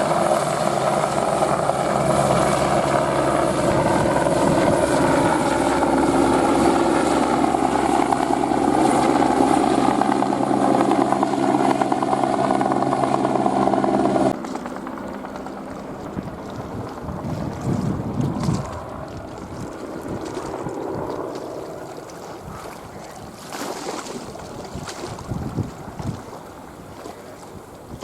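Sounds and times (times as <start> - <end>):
helicopter running: 0.0 - 27.8.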